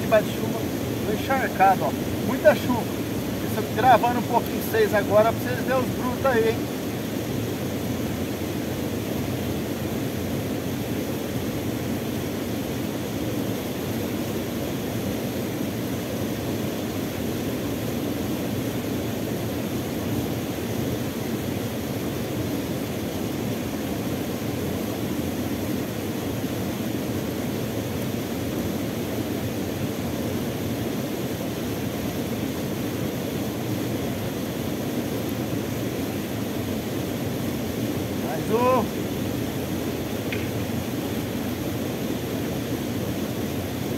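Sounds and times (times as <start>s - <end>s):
small waterfall rushing: 0.0s - 43.9s.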